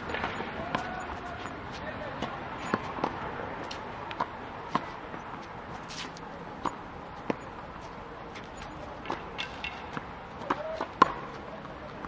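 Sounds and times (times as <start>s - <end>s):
hall background noise: 0.0s - 12.0s.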